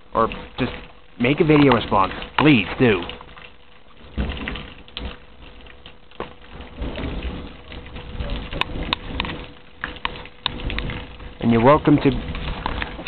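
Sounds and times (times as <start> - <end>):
heavy rain patter: 0.0 - 13.0
low thumps: 0.0 - 13.0.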